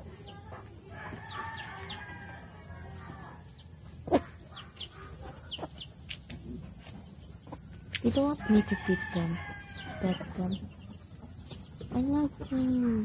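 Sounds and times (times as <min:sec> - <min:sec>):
hens chirping: 0:00.0 - 0:13.0.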